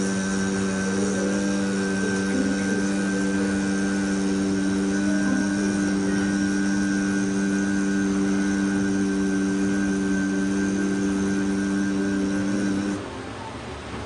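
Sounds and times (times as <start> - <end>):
low tone drone: 0.0 - 13.7.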